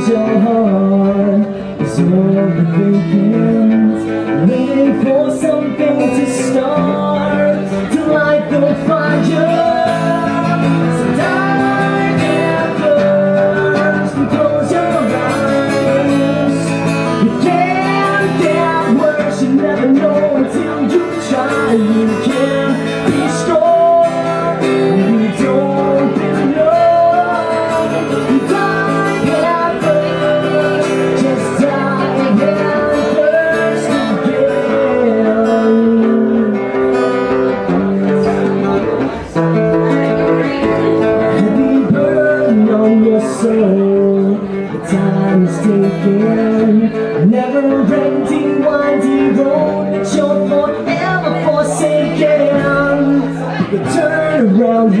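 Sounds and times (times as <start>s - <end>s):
man singing: 0.0s - 55.0s
strummed acoustic guitar: 0.0s - 55.0s.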